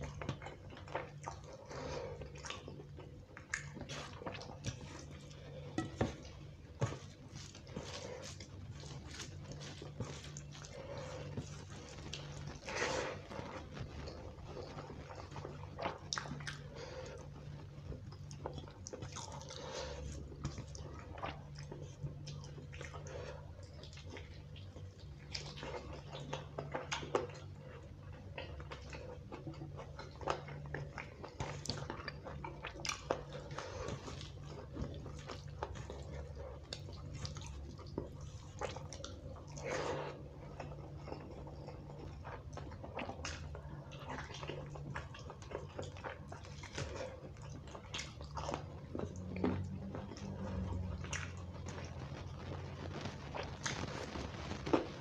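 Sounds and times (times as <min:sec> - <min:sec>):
wet chewing and smacking: 0:00.0 - 0:55.0.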